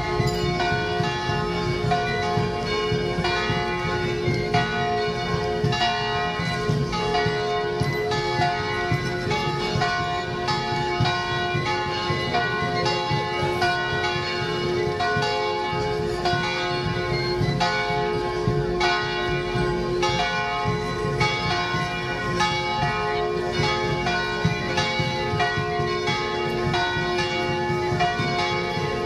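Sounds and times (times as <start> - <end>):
bell-like folk dance melody: 0.0 - 29.0.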